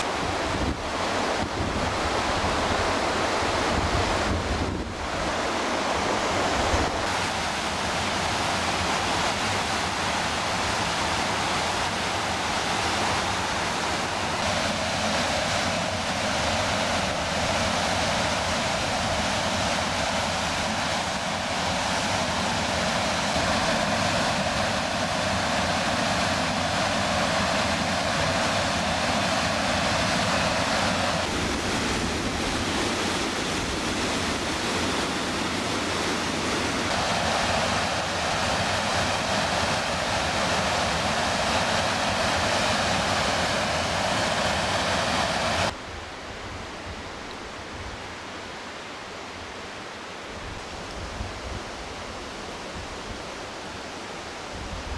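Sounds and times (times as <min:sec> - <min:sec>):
river rushing over rapids: 0:00.0 - 0:54.9.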